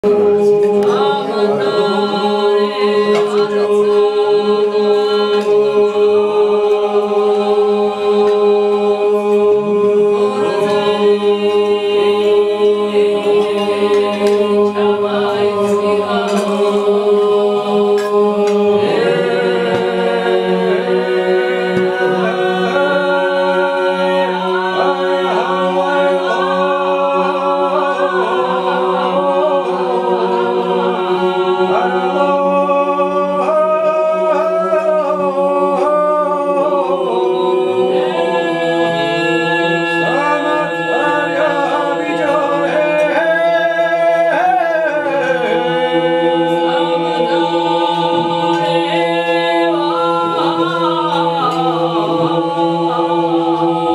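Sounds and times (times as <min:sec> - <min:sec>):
men singing a cappella: 0:00.0 - 0:53.9.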